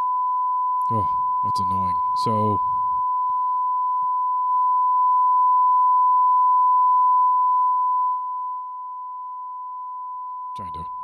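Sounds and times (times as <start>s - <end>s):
steady sine test tone: 0.0s - 11.0s.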